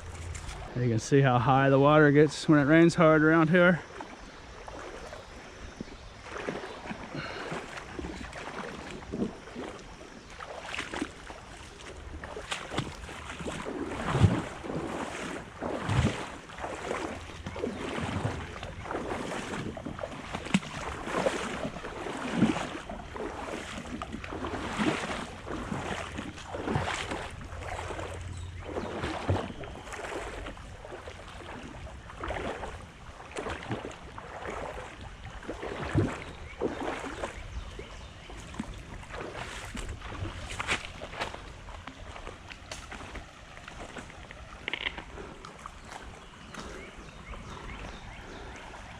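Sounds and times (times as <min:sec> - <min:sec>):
rushing creek water: 0:00.0 - 0:48.9
water splashing from wading: 0:00.0 - 0:48.9.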